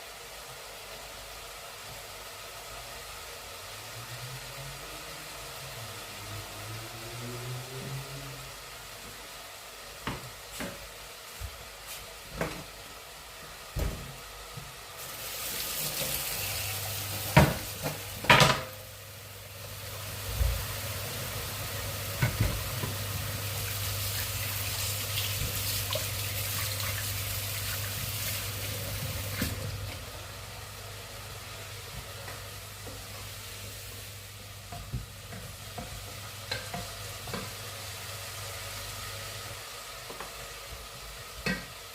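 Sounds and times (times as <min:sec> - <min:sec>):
food sizzling in a pan: 0:00.0 - 0:13.7, 0:14.5 - 0:41.9.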